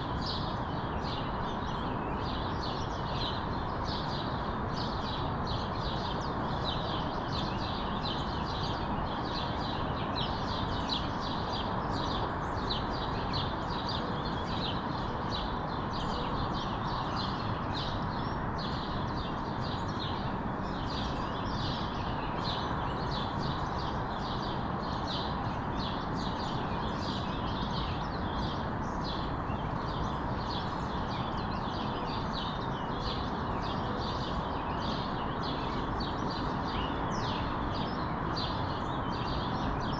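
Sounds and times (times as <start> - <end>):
neighbourhood ambient rush: 0.0 - 39.9
songbirds chirping: 0.0 - 39.9.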